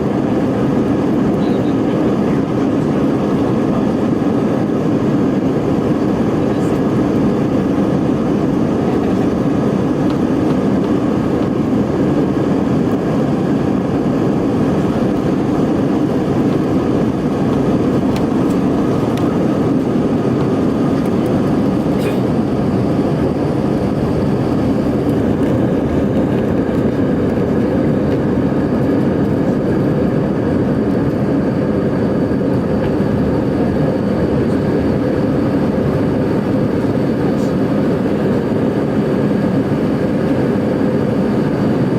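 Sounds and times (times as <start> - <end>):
jet engine and airflow rushing: 0.0 - 41.9.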